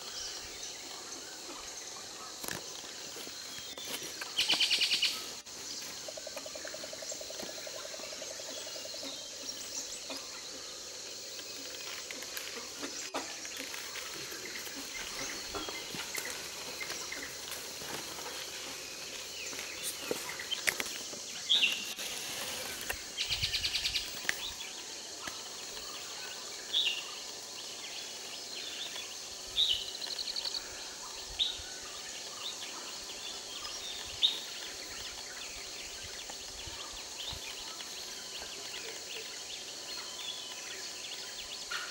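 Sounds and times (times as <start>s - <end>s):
high insect hiss: 0.0s - 41.9s.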